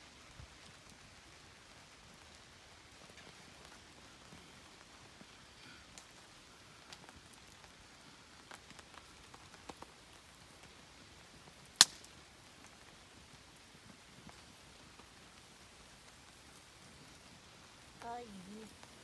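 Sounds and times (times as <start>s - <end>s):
light rain hiss: 0.0s - 19.0s
raindrops tapping: 0.2s - 19.0s.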